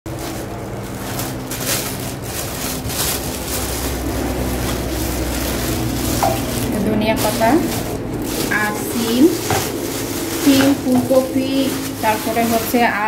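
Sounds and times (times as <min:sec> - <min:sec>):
plastic bag crinkling: 0:00.1 - 0:13.0
steady low hum: 0:00.1 - 0:13.0.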